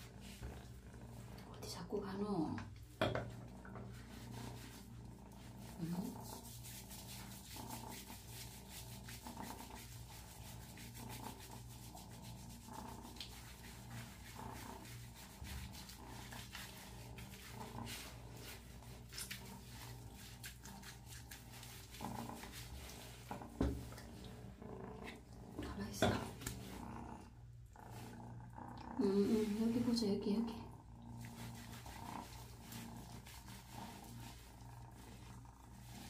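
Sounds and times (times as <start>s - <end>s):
hands rubbing wet fur: 0.0s - 28.4s, 29.0s - 30.5s, 31.1s - 36.0s.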